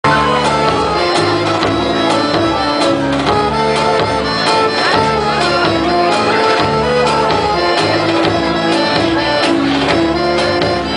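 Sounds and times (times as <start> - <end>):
folk melody of held notes: 0.0 - 10.9.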